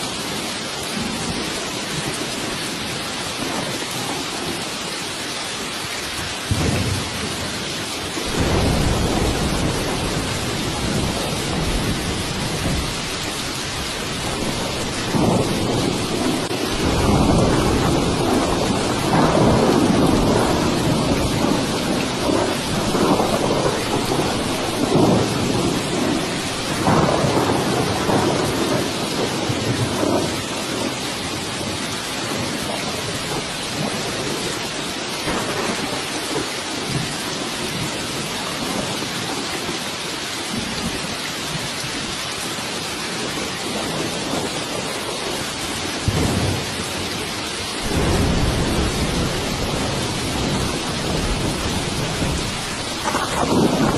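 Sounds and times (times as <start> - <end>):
heavy rain hissing: 0.0 - 53.9
thunder rumbling: 6.2 - 39.9, 43.2 - 53.9.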